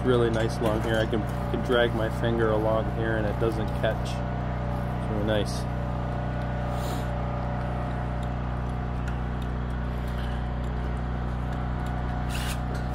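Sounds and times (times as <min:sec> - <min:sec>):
engine running steadily: 0:00.0 - 0:12.9.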